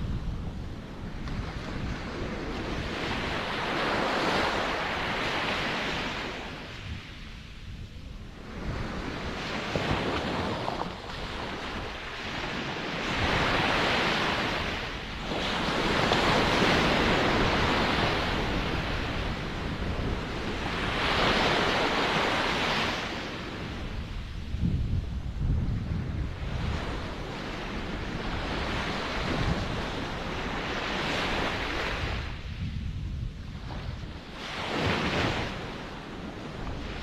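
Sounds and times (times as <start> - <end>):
ocean waves breaking on shore: 0.0 - 37.0
wind on microphone: 0.0 - 37.0.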